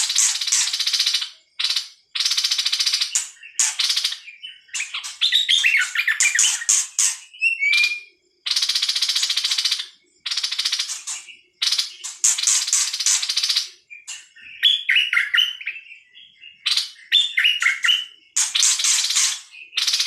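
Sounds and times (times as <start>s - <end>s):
falling whistled bird notes: 0.0s - 15.8s, 16.6s - 20.0s
songbird buzzy chattering calls: 0.0s - 15.8s, 16.6s - 20.0s.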